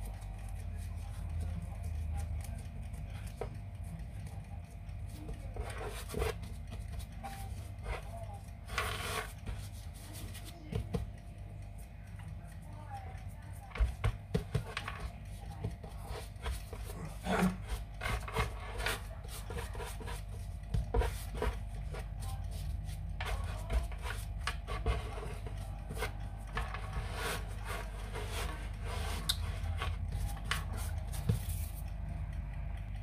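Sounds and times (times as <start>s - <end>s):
hands shaping dough on wood: 0.0s - 32.3s.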